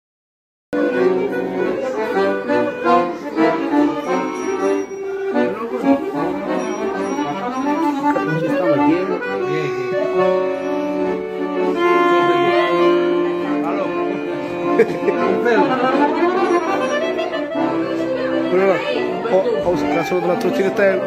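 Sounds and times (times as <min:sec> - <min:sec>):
accordions playing: 0:00.8 - 0:21.0.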